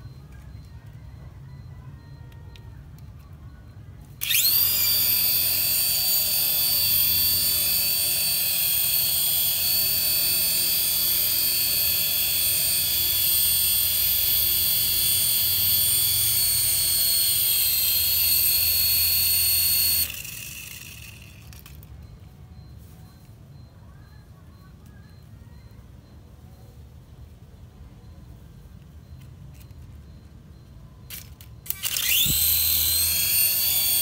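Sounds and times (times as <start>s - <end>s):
toy helicopter motors whining: 0.0s - 23.2s, 28.8s - 34.0s.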